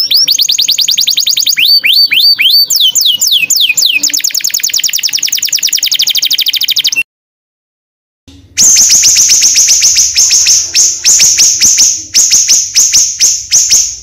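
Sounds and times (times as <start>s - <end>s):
songbird whistling rapid runs: 0.0s - 7.0s, 8.6s - 14.0s.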